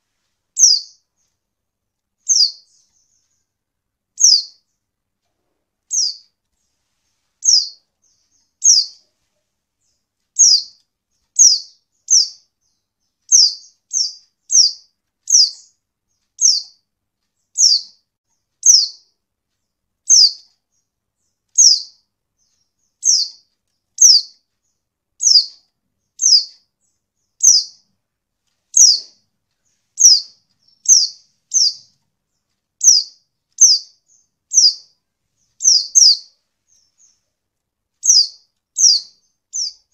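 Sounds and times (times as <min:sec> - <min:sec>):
bird chirping: 0:00.5 - 0:01.5, 0:02.2 - 0:39.9.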